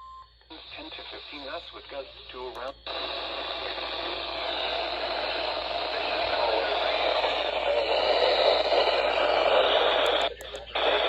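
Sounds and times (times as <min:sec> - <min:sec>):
radio static hiss: 0:00.5 - 0:11.0.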